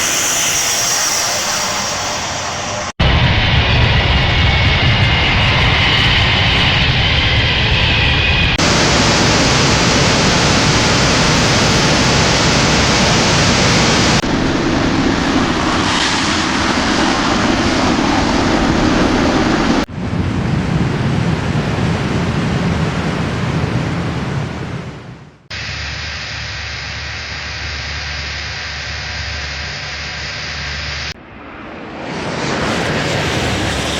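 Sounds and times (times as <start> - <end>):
jet engine roar: 0.0 - 33.9.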